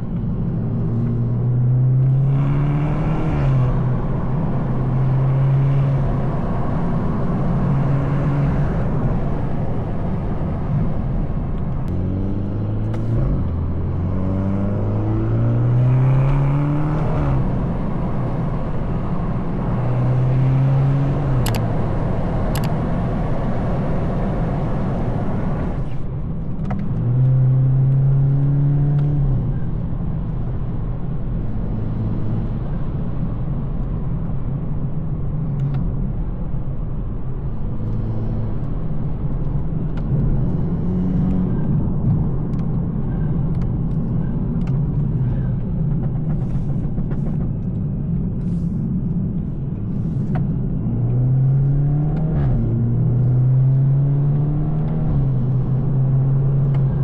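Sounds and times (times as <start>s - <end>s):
car engine cruising: 0.0s - 57.0s.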